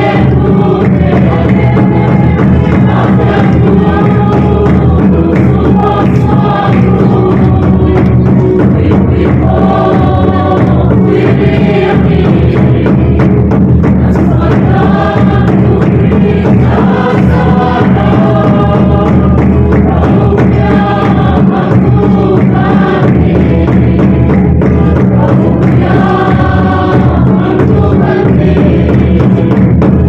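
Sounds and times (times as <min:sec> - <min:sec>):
congregation singing a hymn: 0:00.0 - 0:30.0
steady beat: 0:00.0 - 0:30.0.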